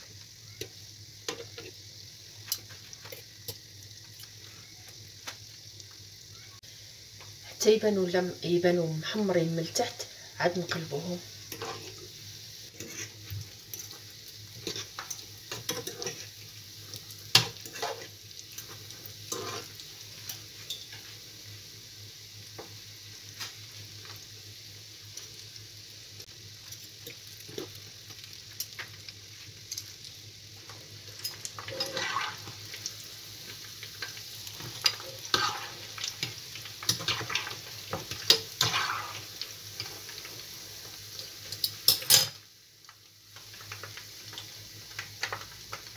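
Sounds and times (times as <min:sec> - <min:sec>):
doughnuts sizzling in hot oil: 0:00.0 - 0:45.9.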